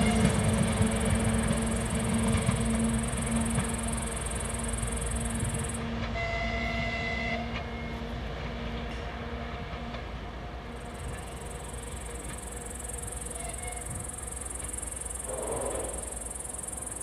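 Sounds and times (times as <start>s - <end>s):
diesel locomotive engine: 0.0s - 17.0s
train rolling on rails: 0.0s - 17.0s.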